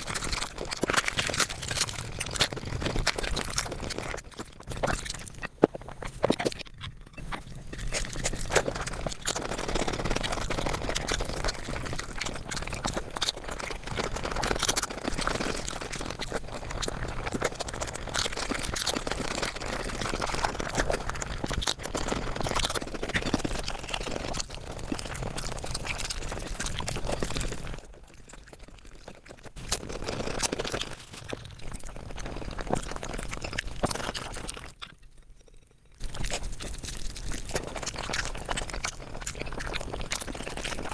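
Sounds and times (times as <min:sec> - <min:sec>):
sped-up chewing and crunching: 0:00.0 - 0:40.9.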